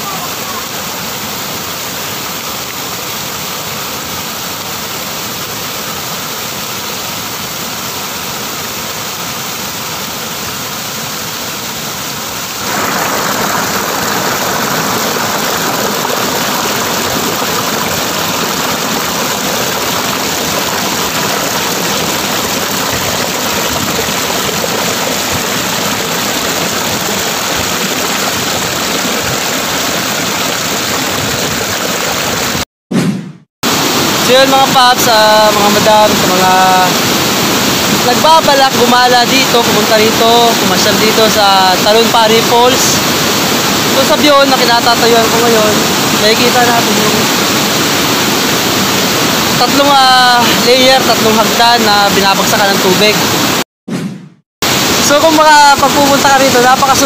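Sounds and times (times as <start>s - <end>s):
waterfall pouring into pool: 0.0s - 32.6s, 33.7s - 53.6s, 54.6s - 57.0s.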